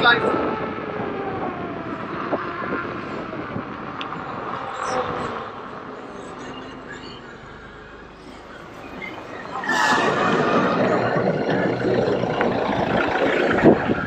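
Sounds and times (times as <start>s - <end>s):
wind and tyre noise: 0.0s - 14.0s.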